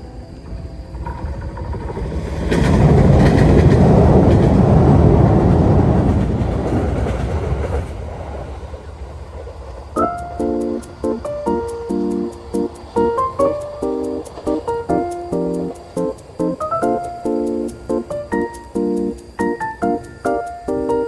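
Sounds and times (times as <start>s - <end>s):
train passing by: 0.0s - 21.0s.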